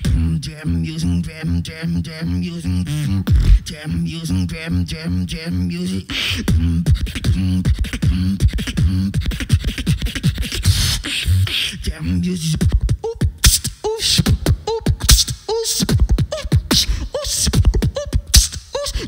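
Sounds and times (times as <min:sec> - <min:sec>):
beatboxing into a microphone: 0:00.0 - 0:19.0.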